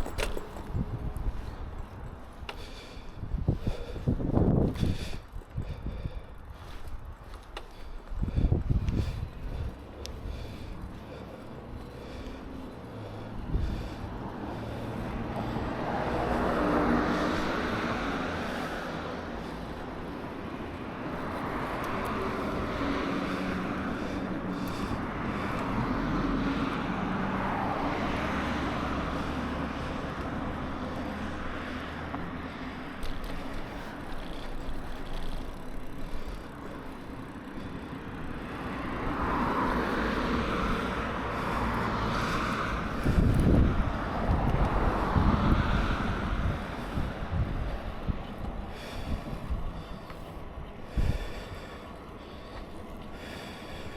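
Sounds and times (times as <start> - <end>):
low traffic rumble: 0.0 - 53.9
vehicles passing: 0.0 - 53.9.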